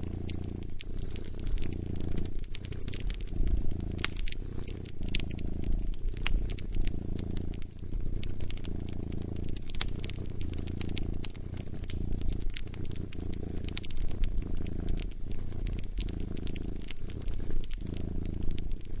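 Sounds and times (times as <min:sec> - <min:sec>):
cat purring: 0:00.0 - 0:19.0
wood fire crackling: 0:00.0 - 0:19.0.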